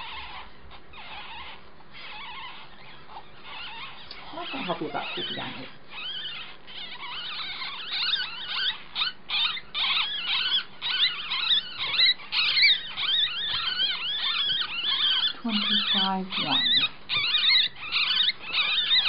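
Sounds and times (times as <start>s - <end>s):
ferret kit squeaking: 0.0s - 19.0s.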